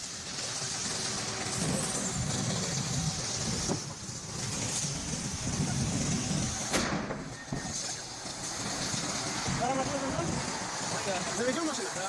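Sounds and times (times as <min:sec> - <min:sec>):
sharp crack: 0:00.0 - 0:11.7
road vehicle noise: 0:00.0 - 0:12.0.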